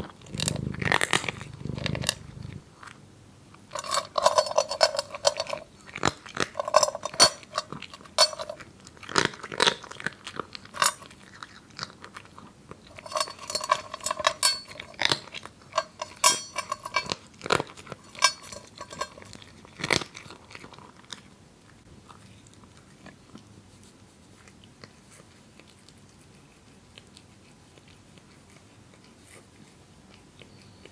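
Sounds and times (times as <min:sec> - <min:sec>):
cat crunching dry kibble: 0:00.0 - 0:30.8.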